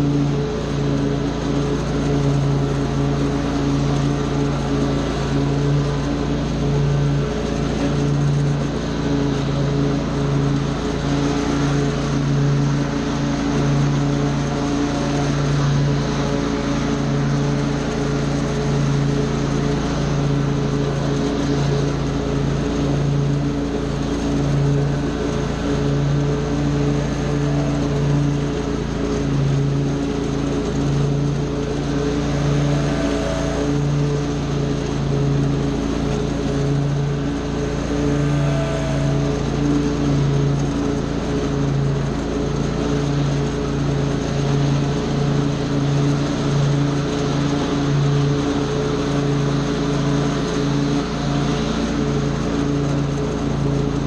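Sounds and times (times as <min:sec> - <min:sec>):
small gasoline engine running: 0:00.0 - 0:54.0.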